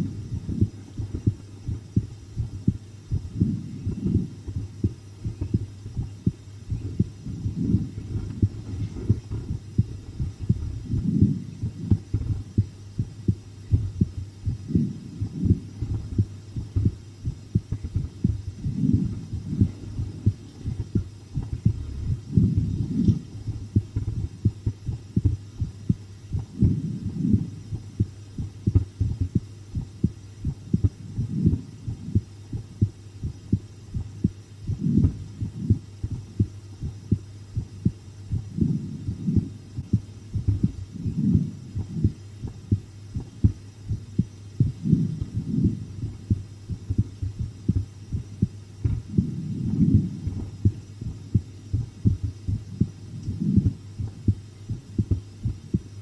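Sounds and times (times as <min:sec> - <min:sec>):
constant low hum: 0:00.0 - 0:56.0
heartbeat thumps: 0:00.0 - 0:56.0.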